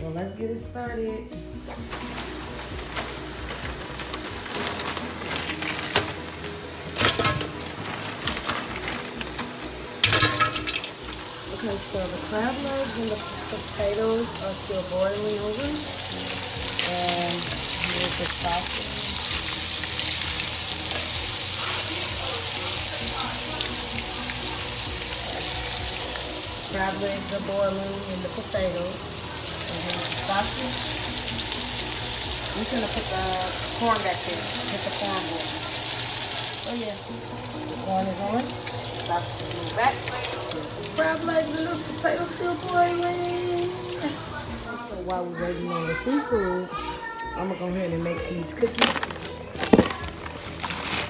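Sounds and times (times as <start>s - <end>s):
sausage sizzling in a frying pan: 1.6s - 45.0s.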